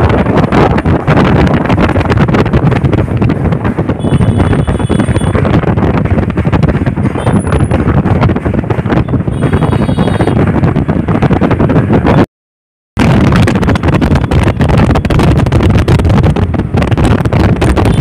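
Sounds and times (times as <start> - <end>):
traffic rumbling over bridge: 0.0 - 12.2, 13.0 - 18.0
wind buffeting microphone: 0.0 - 12.2, 13.0 - 18.0.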